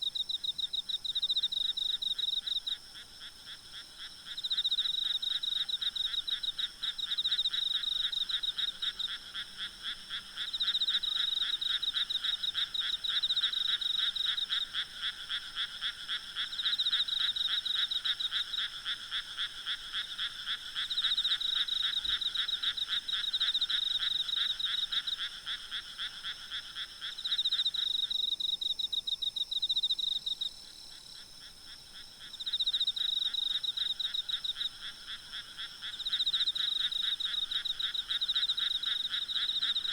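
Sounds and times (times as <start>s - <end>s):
frogs calling in pulsed trills: 0.0s - 39.9s
insects trilling: 0.1s - 39.9s.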